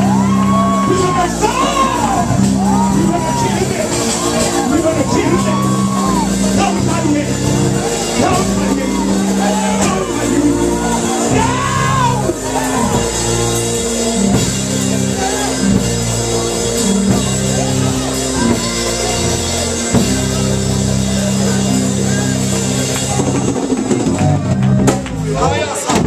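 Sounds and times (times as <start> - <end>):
drum kit: 0.0 - 26.0
held keyboard chords: 0.0 - 26.0.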